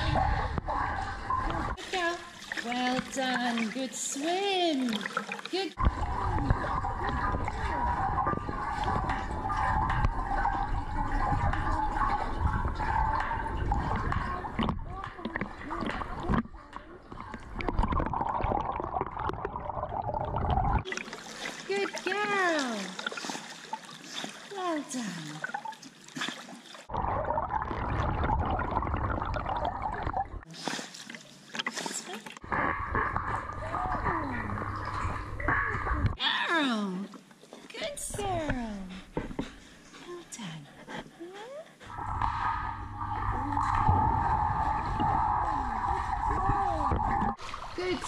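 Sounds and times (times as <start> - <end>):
muffled underwater churning: 0.0 - 36.2, 37.1 - 48.0.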